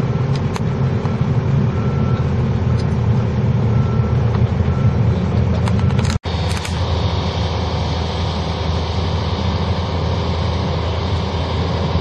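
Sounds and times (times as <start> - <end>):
machinery engine droning: 0.0 - 12.0.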